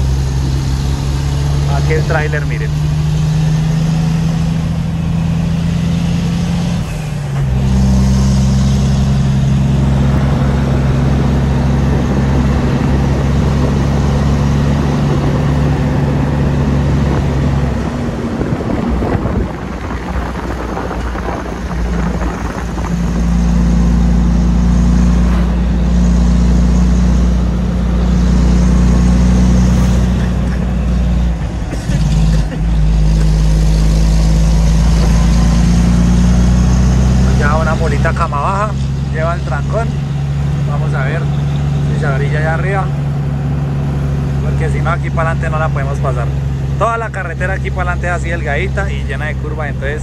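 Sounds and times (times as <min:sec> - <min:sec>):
road noise: 0:00.0 - 0:50.0
truck diesel engine drone: 0:00.0 - 0:50.0.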